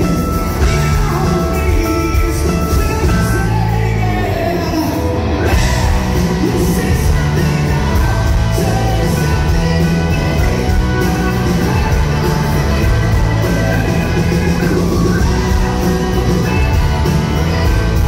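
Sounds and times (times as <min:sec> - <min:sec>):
live rock band playing: 0:00.0 - 0:18.0
vocals over music: 0:00.0 - 0:18.0.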